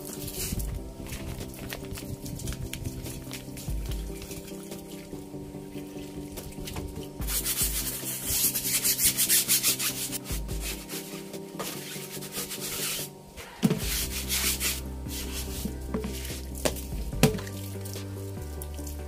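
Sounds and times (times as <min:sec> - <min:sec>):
brush scrubbing a wet tyre: 0:00.0 - 0:19.0.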